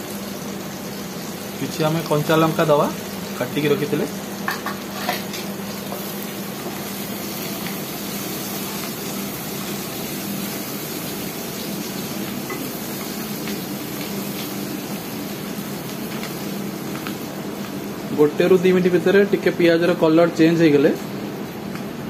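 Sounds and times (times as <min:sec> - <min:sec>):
onions frying in oil: 0:00.0 - 0:22.0.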